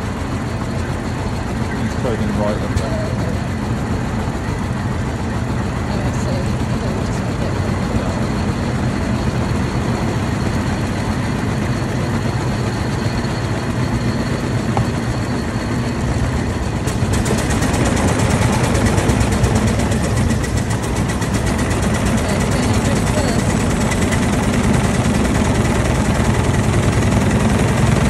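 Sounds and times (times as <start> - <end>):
car engine idling: 0.0 - 28.0
fast even ticking: 1.6 - 27.9.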